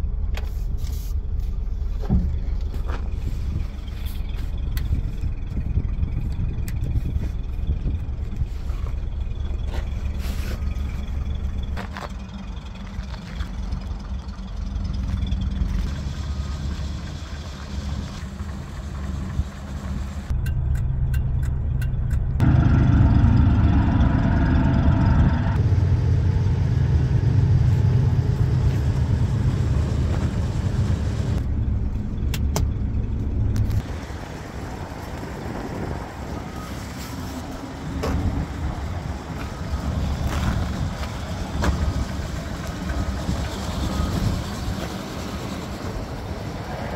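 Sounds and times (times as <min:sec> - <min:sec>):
petrol engine idling: 0:00.0 - 0:46.9.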